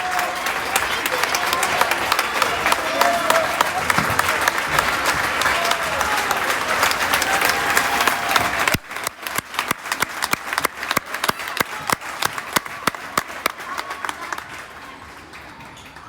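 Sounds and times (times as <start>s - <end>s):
crowd applauding and cheering: 0.0s - 16.0s
scattered individual claps: 0.0s - 16.0s.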